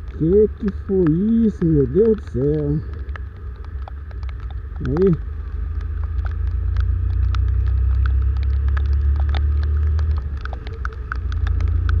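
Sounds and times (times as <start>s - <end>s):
motorcycle rumble: 0.0s - 12.0s
raindrops ticking on camera: 0.0s - 12.0s
wind: 0.0s - 12.0s.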